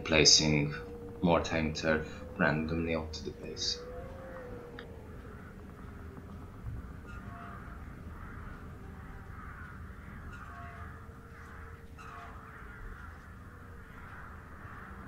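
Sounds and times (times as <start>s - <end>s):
faint harsh bird calls: 0.0s - 15.0s.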